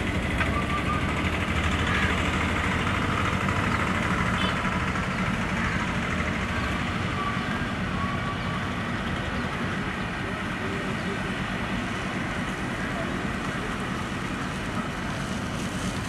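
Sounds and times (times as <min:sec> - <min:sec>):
diesel locomotive engine drone: 0:00.0 - 0:16.0.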